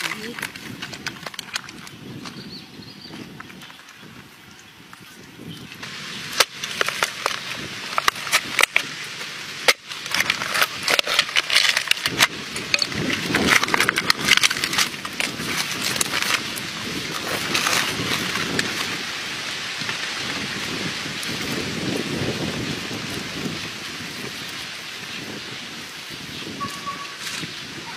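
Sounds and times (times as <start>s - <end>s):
coconut husk cracking and tearing: 0.0s - 2.4s, 3.2s - 25.1s
steady hiss: 3.8s - 27.9s.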